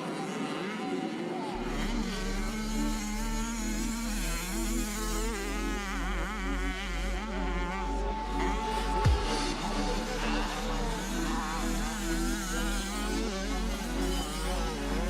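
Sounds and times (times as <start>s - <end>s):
dirt bike engines revving: 1.6s - 15.0s
steady low hum: 1.6s - 15.0s.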